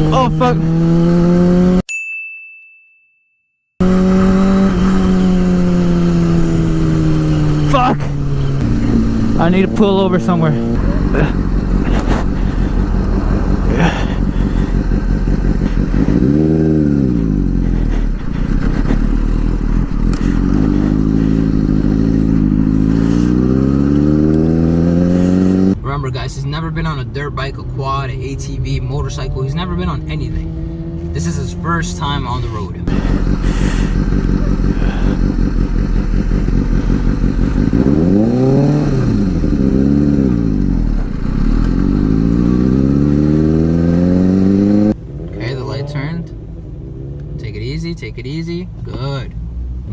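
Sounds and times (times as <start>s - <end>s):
vehicle engine revving: 0.0s - 1.8s, 3.8s - 49.9s
wind and road rumble: 0.0s - 1.8s, 3.8s - 49.9s.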